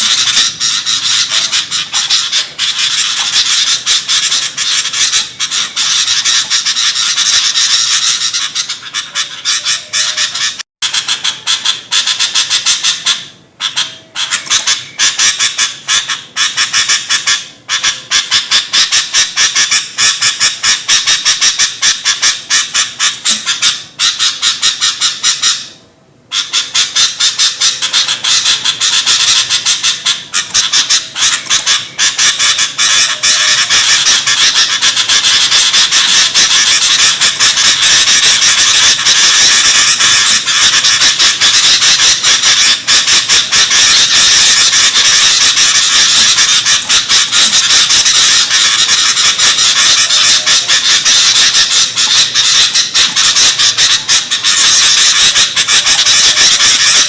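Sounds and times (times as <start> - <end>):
bulbuls chattering: 0.0 - 57.0.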